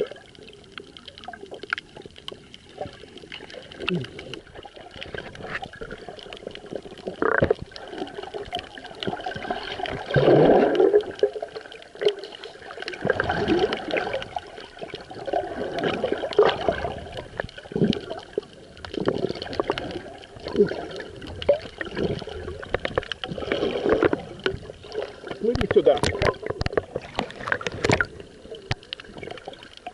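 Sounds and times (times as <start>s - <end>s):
water swish: 0.0s - 29.9s.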